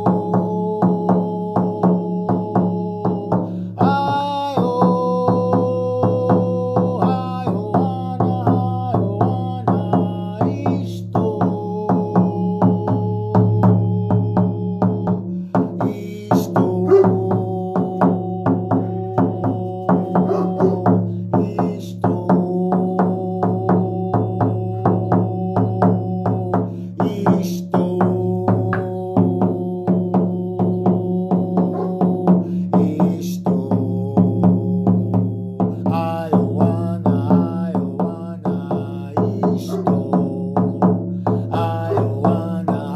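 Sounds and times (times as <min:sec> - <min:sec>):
hand drum beaten: 0:00.0 - 0:42.9.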